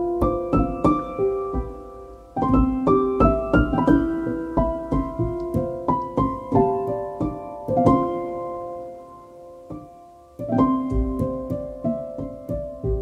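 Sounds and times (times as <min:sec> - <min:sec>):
calm solo piano: 0:00.0 - 0:13.0.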